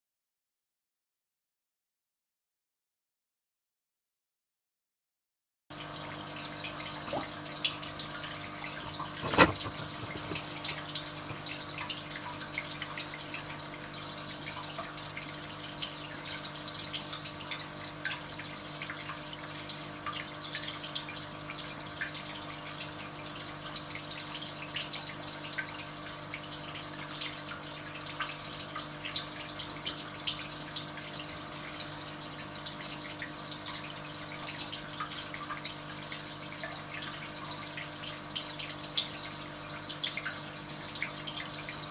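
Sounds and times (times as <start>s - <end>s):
water trickling and dripping: 5.8s - 41.9s.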